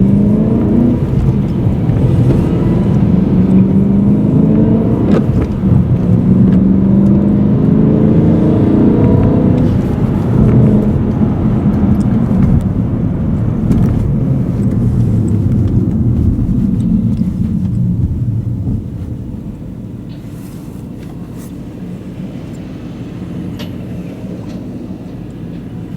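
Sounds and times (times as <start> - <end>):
car engine heard from cabin: 0.0 - 25.9.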